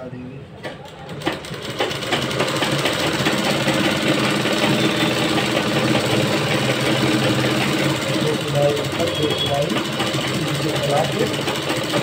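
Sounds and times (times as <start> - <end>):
sewing machine running: 1.0 - 12.0.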